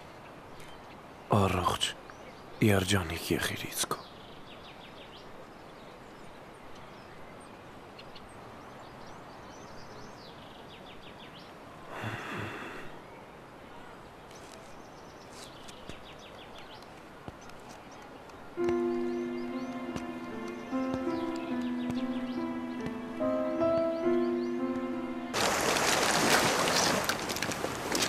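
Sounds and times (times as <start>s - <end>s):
small birds chirping: 0.0s - 27.3s
steady background hiss: 0.0s - 28.0s.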